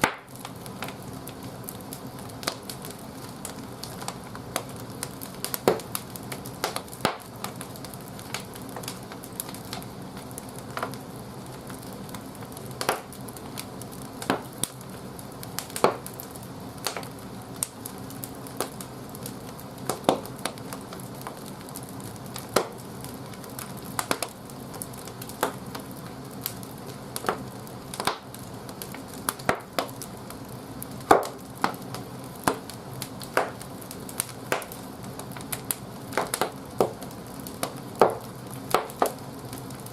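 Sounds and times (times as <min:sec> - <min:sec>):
firewood popping and crackling: 0:00.0 - 0:39.9
low rush of fire: 0:00.0 - 0:39.9.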